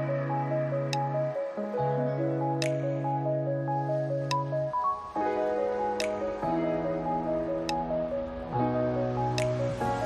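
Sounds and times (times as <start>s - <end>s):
background music with held chords: 0.0s - 10.0s.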